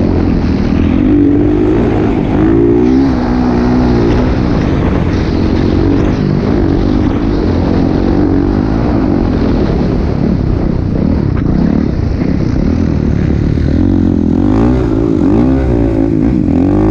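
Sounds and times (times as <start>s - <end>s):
motocross bike engine revving: 0.0s - 16.9s.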